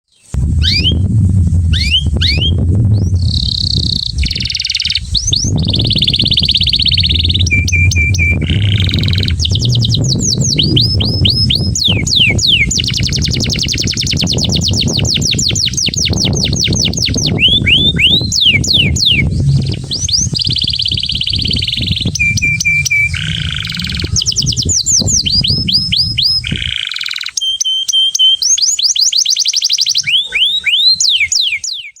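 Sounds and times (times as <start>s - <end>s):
canary singing trills: 0.1s - 1.1s, 1.7s - 32.0s
steady low rumble: 0.3s - 26.7s.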